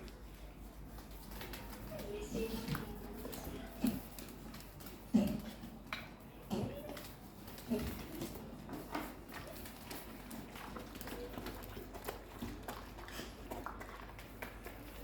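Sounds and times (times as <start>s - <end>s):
dogs eating wet smacks: 0.0s - 15.0s.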